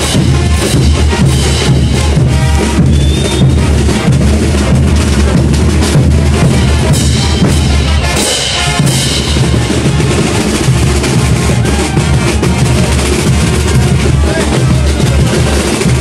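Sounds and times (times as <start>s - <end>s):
bass drum: 0.0s - 16.0s
brass band playing: 0.0s - 16.0s.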